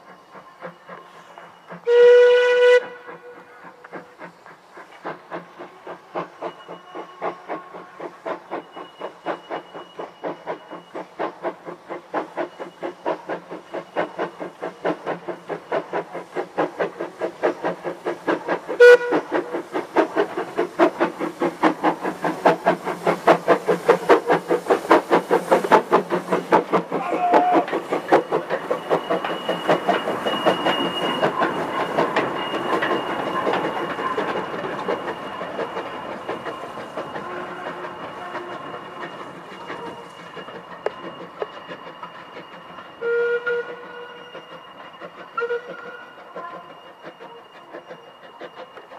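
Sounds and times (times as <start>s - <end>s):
steam hissing: 0.0s - 48.9s
steam locomotive chuffing: 0.0s - 48.9s
wheels clacking over rail joints: 8.6s - 48.9s.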